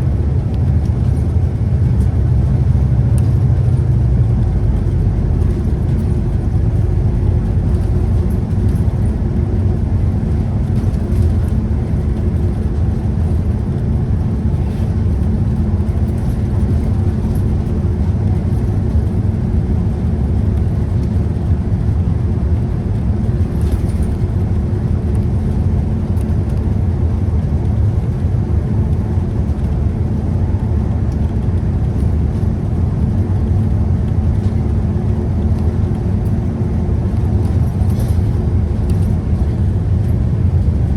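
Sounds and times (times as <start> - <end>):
bus diesel engine rumble: 0.0 - 40.9
road noise: 0.0 - 40.9.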